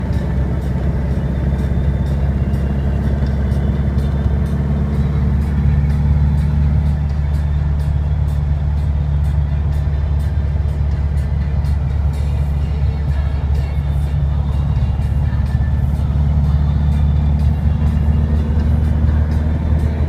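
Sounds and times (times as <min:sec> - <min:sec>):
car engine drone: 0:00.0 - 0:20.0
road noise: 0:00.0 - 0:20.0
music with a beat: 0:00.1 - 0:20.0.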